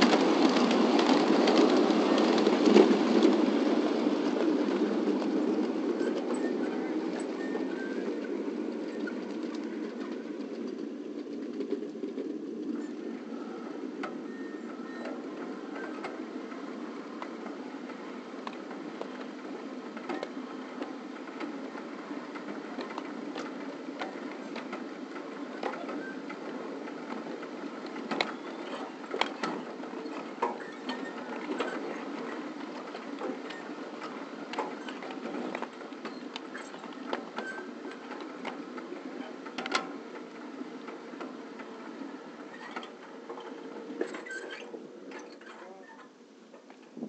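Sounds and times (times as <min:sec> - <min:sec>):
wheels clicking on rails: 0:00.0 - 0:47.0.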